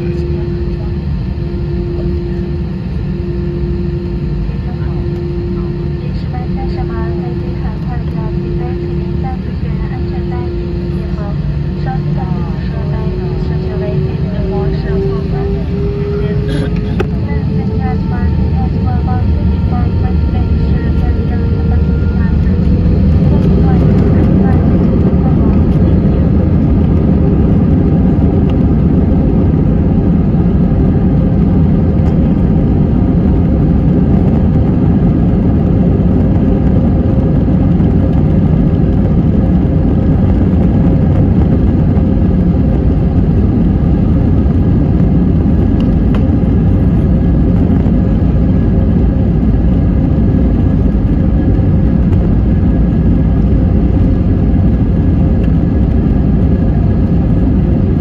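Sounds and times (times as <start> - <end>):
airplane engines droning: 0.0 - 58.0.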